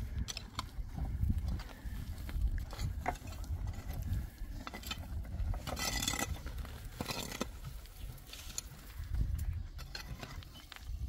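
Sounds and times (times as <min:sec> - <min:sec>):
hoe scraping stony soil: 0:00.0 - 0:11.0
steady low rumble: 0:00.0 - 0:11.0.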